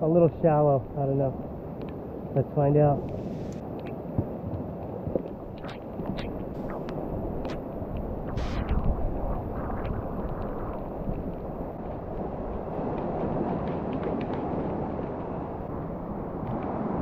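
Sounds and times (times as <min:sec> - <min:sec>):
wind buffeting microphone: 0:00.8 - 0:17.0.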